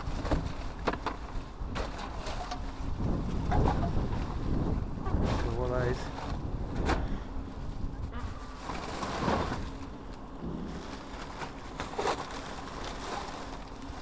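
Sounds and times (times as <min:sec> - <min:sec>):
rustling rubbish bags: 0:00.0 - 0:14.0
wind rumble on microphone: 0:00.0 - 0:14.0.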